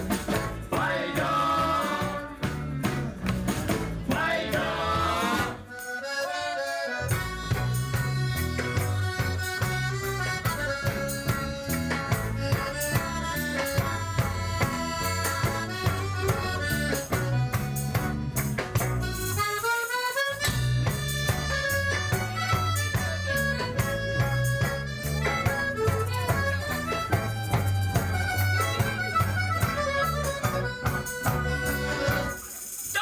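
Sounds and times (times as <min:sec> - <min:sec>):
live band playing tango: 0:00.0 - 0:32.7
accordion melody: 0:00.0 - 0:32.8.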